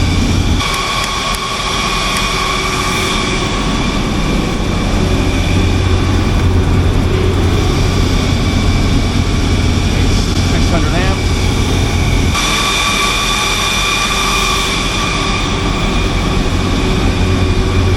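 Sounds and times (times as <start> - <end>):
generator droning with whine: 0.0 - 17.9.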